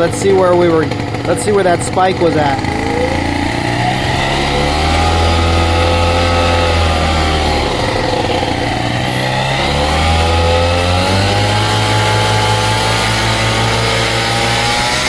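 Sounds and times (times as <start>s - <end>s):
two-stroke paramotor engine revving: 0.0s - 15.0s.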